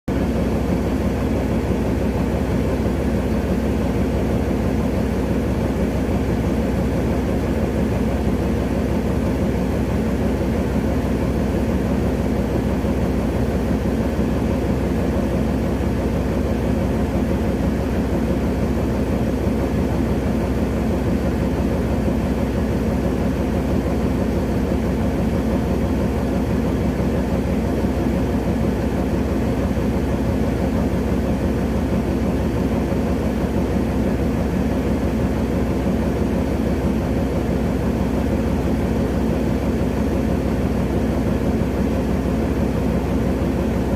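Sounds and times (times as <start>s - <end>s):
diesel engine droning: 0.1s - 43.9s.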